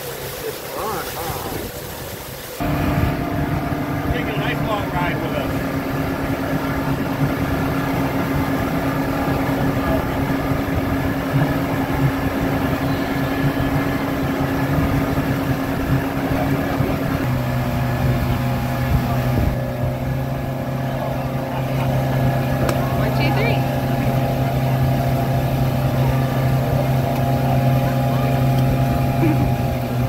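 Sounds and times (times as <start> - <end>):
boat engine running: 0.0 - 30.0
water rushing: 0.0 - 30.0.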